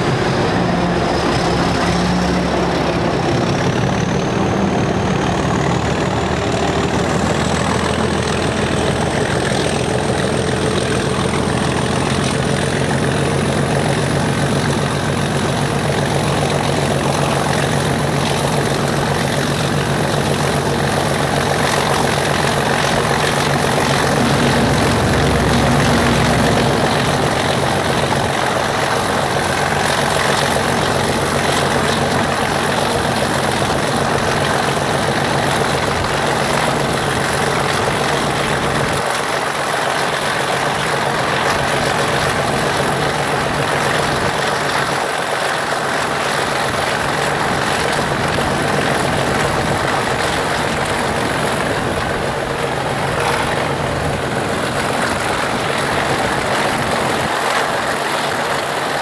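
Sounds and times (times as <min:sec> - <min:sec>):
diesel locomotive engine working: 0:00.0 - 0:59.0.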